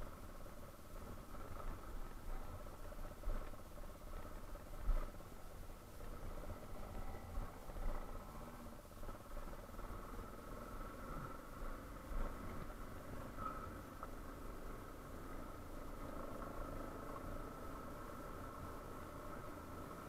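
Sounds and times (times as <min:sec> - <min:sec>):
motorcycle running at low speed: 0:00.0 - 0:20.0.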